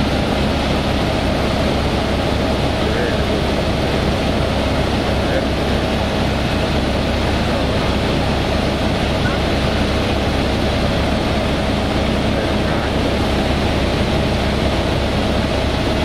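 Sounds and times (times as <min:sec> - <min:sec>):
helicopter cabin rotor drone: 0:00.0 - 0:16.0.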